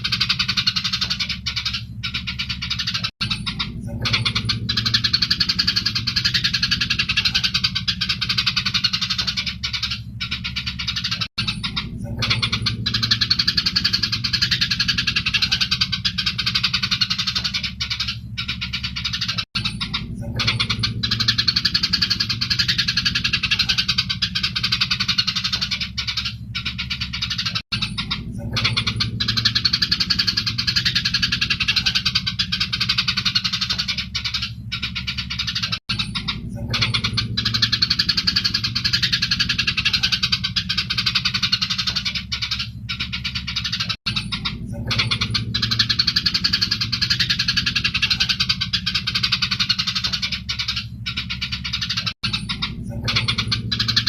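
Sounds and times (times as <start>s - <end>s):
low hum: 0.0s - 54.0s
sparrows chirping: 0.0s - 54.0s.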